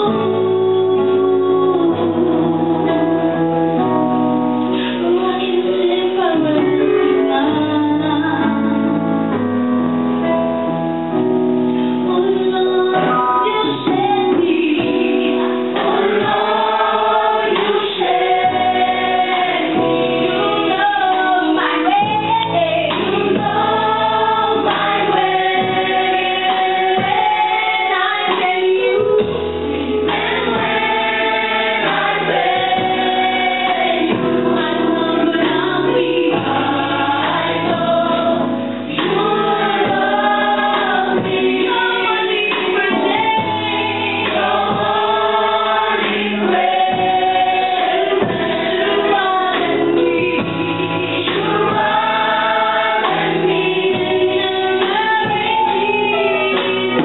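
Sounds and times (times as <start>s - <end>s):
choir singing a gospel hymn: 0.0s - 9.3s, 11.9s - 57.0s.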